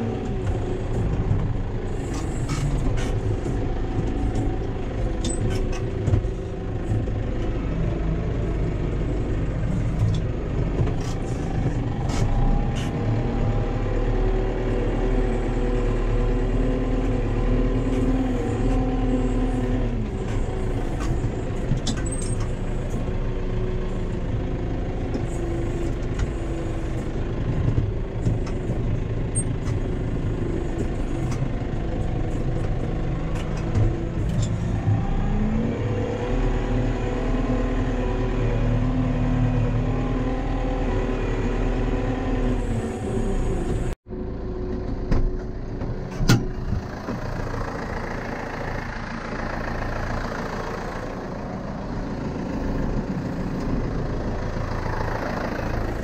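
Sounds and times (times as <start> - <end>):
loader clanks and rattles: 0.0 - 56.0
tractor diesel engine running: 0.0 - 56.0.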